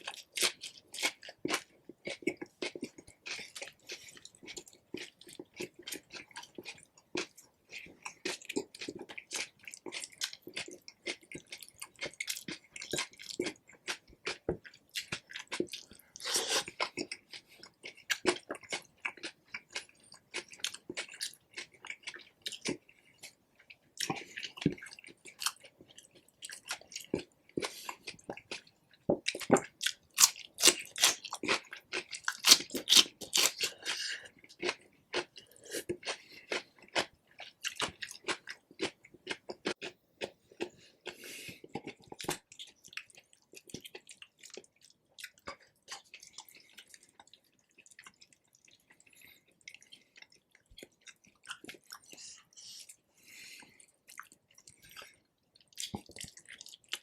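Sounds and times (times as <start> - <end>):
chewing and biting chicken: 0.0 - 57.0.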